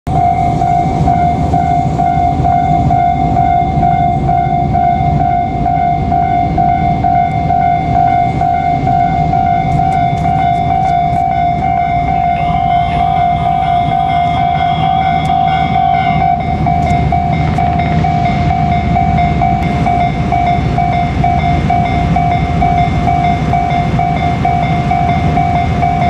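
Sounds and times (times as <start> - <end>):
level-crossing warning bell: 0.1 - 26.0
train rumble: 0.1 - 26.0.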